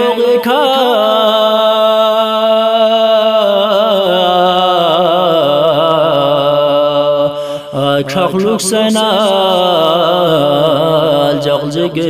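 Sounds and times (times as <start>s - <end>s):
man singing in chanting style: 0.0s - 12.0s.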